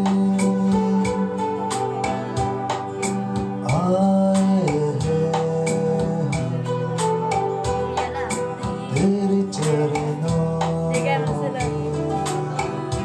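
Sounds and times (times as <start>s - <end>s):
music with steady beat: 0.0s - 13.0s.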